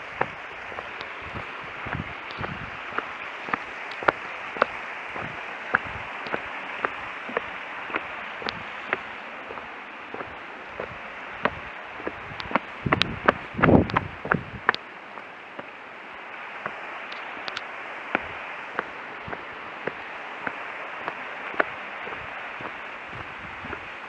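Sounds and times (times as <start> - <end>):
footsteps on paved path: 0.0 - 15.7, 16.6 - 24.0
mountain stream rushing: 0.0 - 24.0.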